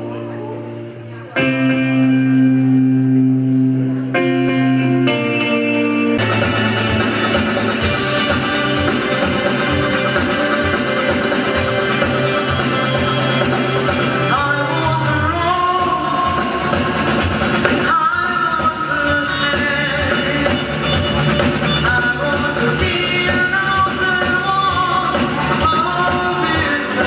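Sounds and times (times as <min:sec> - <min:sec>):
person singing: 0:00.0 - 0:27.0
rock music: 0:00.0 - 0:27.0.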